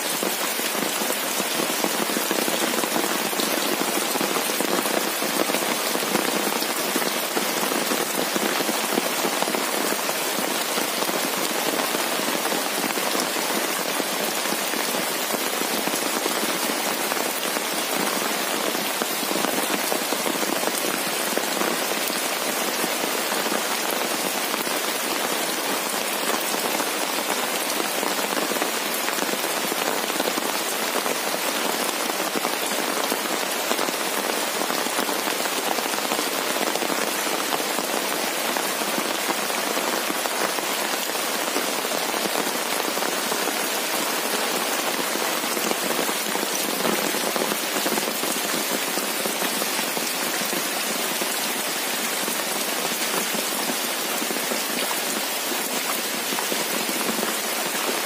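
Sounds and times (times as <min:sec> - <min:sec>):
heavy rain on leaves: 0:00.0 - 0:58.0.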